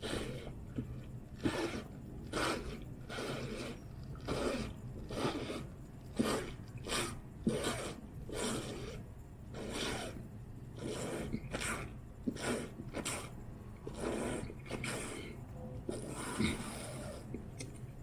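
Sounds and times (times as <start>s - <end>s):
slurping through a straw: 0.0s - 10.2s, 10.8s - 17.4s.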